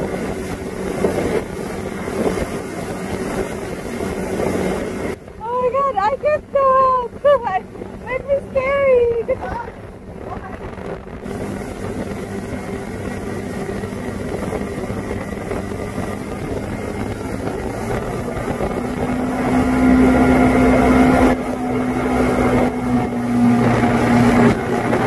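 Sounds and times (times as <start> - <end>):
motorboat engine: 0.0 - 25.0
rushing wake water: 0.0 - 25.0.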